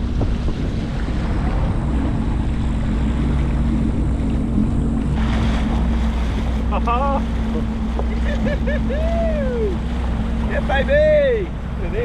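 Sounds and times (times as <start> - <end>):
jet ski engine droning: 0.0 - 12.0.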